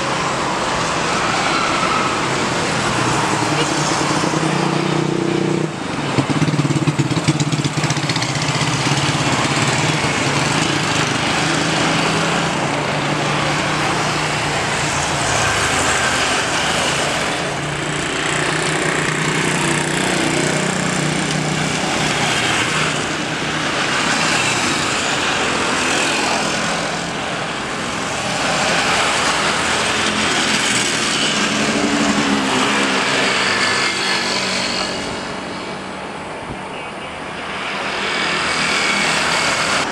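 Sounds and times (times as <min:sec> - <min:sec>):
jet engine rush with whine: 0:00.0 - 0:39.9.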